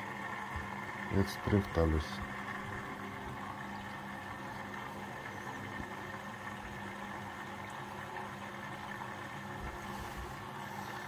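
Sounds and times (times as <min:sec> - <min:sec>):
washing machine hum: 0:00.0 - 0:11.0.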